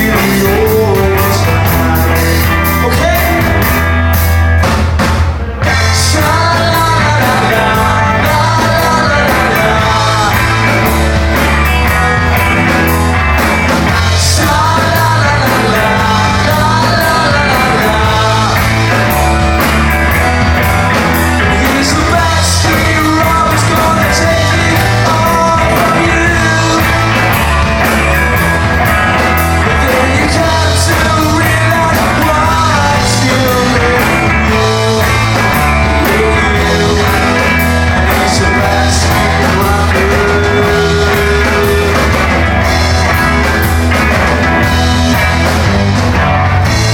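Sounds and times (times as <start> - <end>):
lead vocal singing: 0.0 - 3.9, 5.3 - 43.4
live band playing: 0.0 - 46.9.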